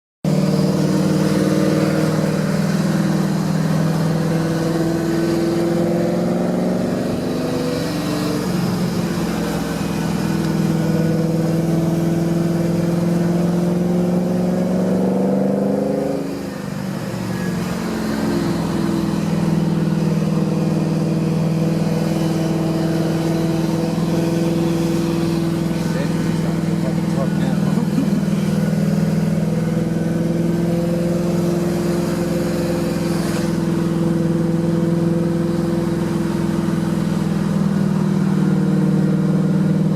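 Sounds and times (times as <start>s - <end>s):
car engine under load: 0.2s - 39.9s.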